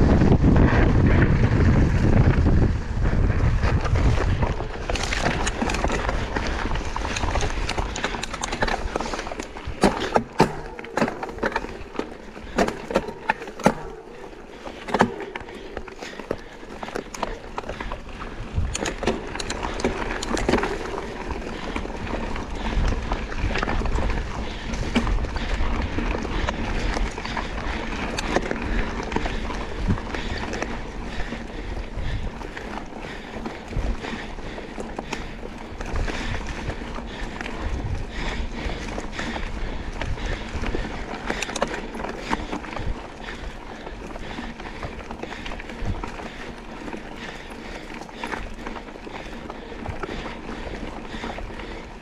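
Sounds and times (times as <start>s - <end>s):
bike tyres rolling over dirt: 0.0s - 52.0s
bike knocks and rattles: 3.3s - 51.8s.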